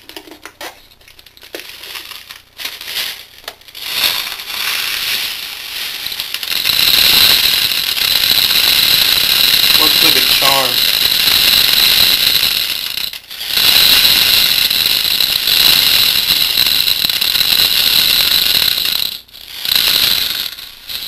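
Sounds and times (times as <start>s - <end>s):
plastic pellets pouring into bottle: 1.2s - 21.0s.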